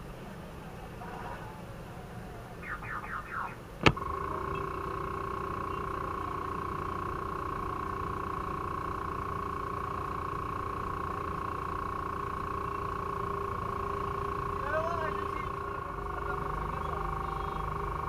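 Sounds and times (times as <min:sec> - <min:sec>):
engine and traffic rumble: 0:00.0 - 0:18.0
electronic siren steady tone: 0:02.6 - 0:18.0.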